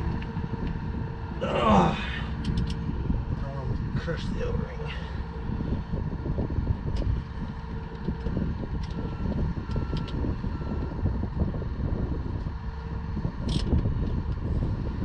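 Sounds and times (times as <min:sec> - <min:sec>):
machine rumble: 0:00.0 - 0:15.0.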